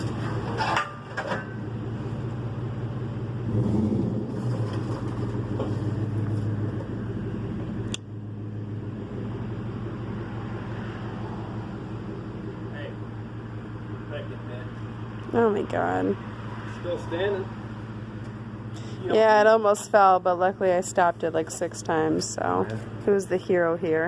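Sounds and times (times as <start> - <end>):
vehicle engine running under load: 0.0 - 24.0.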